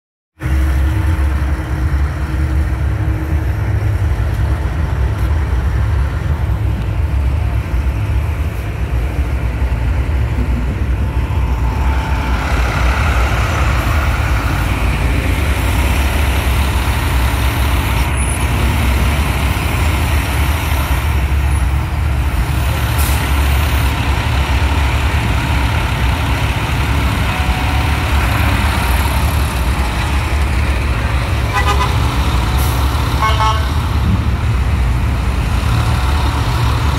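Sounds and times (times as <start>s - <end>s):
road traffic passing: 0.4s - 36.9s.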